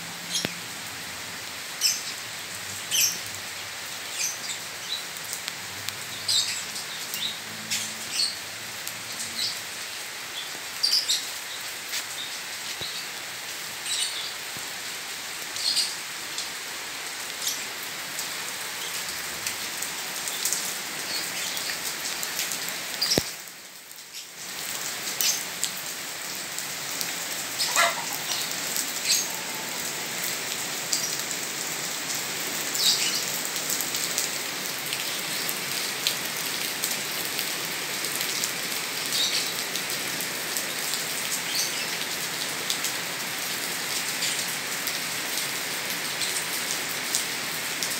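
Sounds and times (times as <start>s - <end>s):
rain on pavement: 0.0s - 47.9s.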